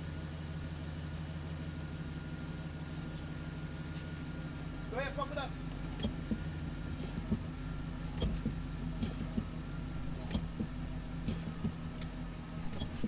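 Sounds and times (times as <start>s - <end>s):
pickup engine idling: 0.5s - 13.0s.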